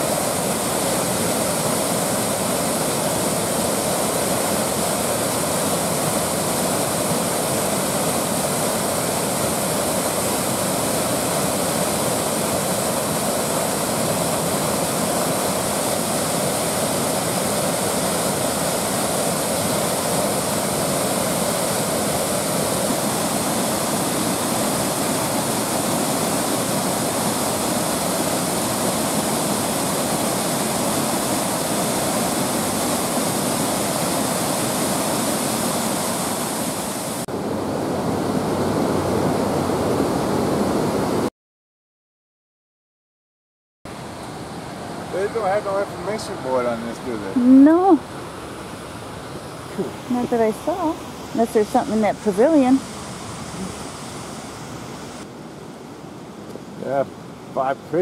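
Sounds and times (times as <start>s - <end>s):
small waterfall rushing: 0.0s - 41.3s, 43.9s - 58.0s.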